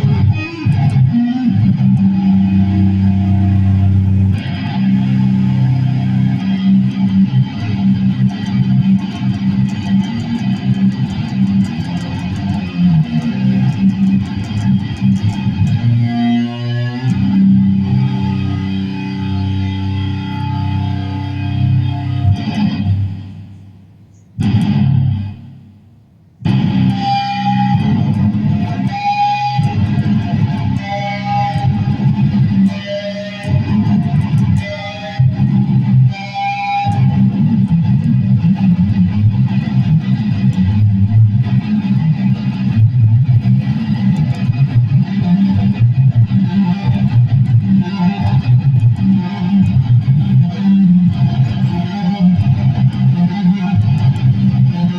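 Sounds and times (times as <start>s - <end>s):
electric guitar through effects: 0.0s - 54.9s.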